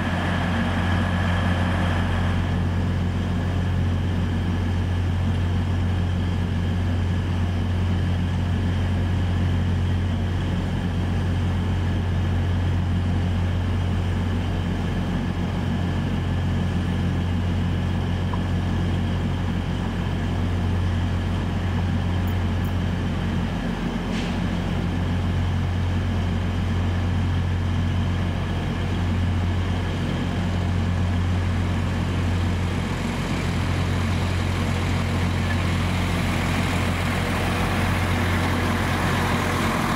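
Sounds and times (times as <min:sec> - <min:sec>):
low diesel engine hum: 0:00.0 - 0:39.9.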